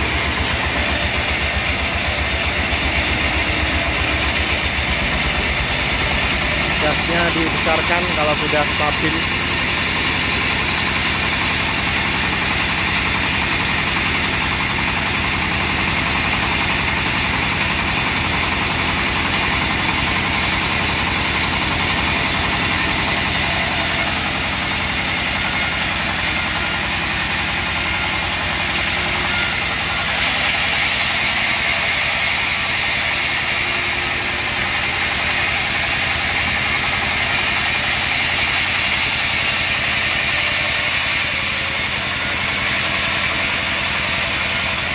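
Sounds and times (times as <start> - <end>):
diesel engine running steadily: 0.0 - 44.9.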